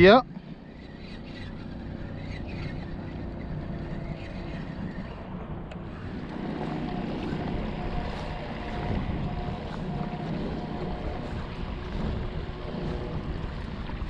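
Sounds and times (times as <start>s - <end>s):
faint steady hum: 0.0s - 14.0s
water washing along kayak hull: 0.0s - 14.0s
wind on microphone: 0.0s - 14.0s.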